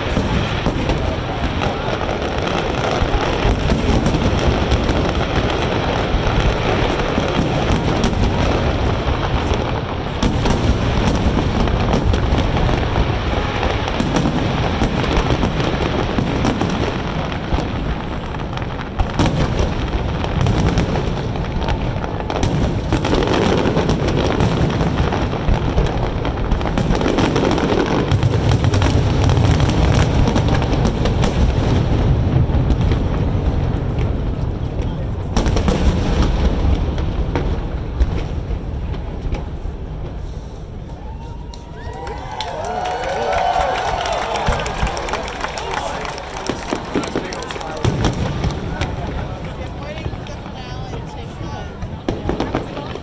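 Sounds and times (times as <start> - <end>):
fireworks booms and crackling: 0.0 - 53.0.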